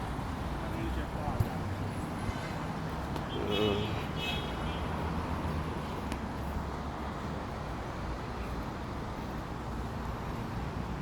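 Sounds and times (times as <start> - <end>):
city road traffic rumble: 0.0 - 11.0.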